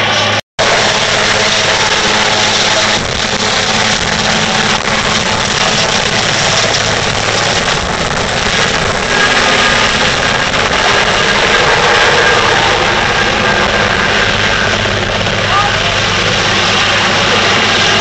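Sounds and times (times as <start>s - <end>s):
helicopter turbine and rotor noise: 0.0s - 18.0s.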